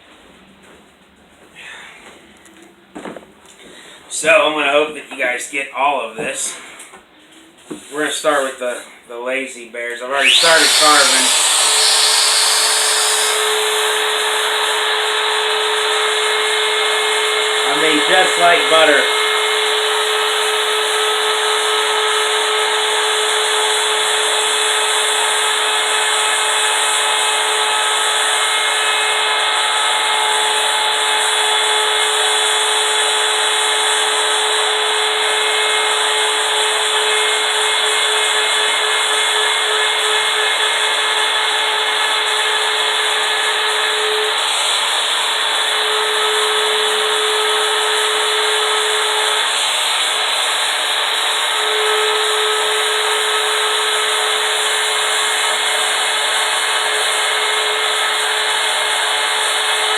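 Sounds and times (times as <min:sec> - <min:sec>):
router bit cutting wood: 0:10.1 - 0:59.9
router motor whine: 0:10.2 - 0:59.9.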